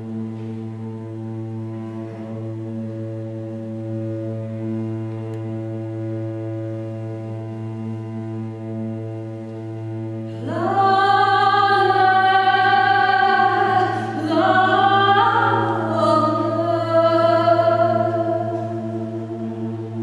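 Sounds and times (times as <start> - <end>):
string orchestra playing: 0.0 - 20.0.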